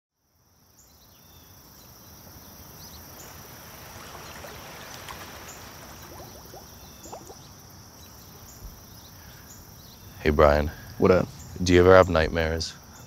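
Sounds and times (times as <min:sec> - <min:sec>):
high-pitched insect chorus: 0:00.4 - 0:13.0
faint chirps: 0:00.6 - 0:13.0.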